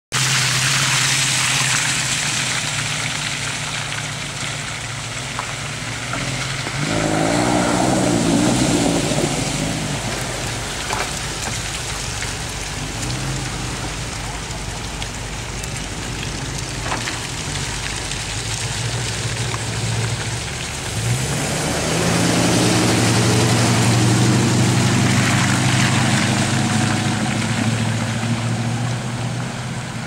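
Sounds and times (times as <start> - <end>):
water splashing: 0.1 - 30.0
car engine revving: 0.3 - 30.0.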